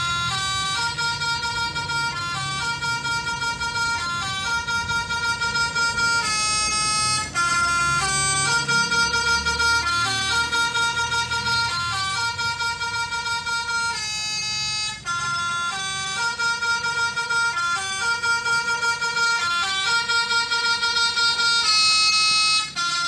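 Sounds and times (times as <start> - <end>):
musical bus horn tune: 0.0 - 23.0.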